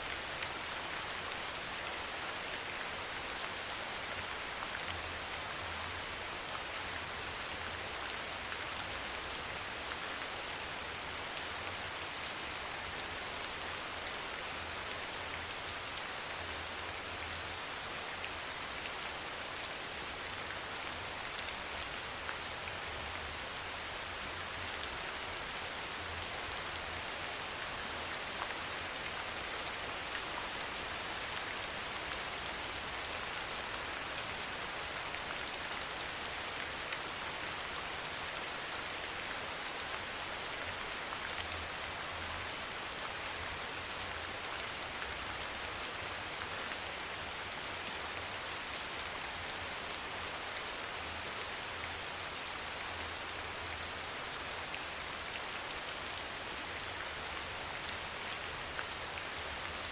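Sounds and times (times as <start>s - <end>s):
soft rain falling: 0.0s - 59.9s.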